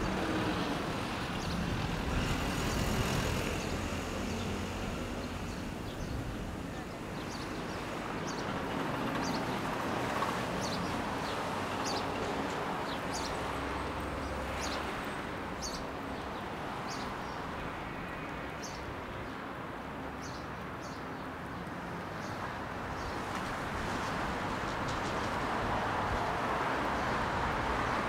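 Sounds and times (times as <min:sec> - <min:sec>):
traffic noise: 0:00.0 - 0:28.0.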